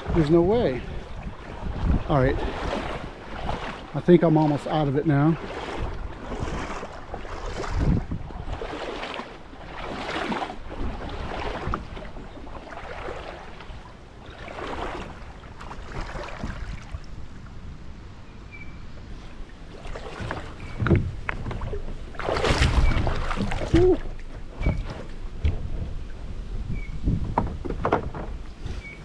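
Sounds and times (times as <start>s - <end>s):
paddle strokes splashing water: 0.0s - 17.6s, 19.1s - 26.3s.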